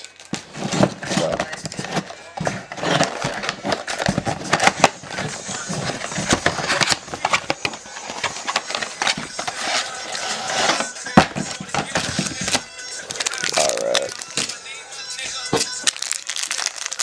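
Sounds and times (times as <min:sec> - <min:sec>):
foil packs crinkling and tearing: 0:00.0 - 0:14.6, 0:15.3 - 0:17.0.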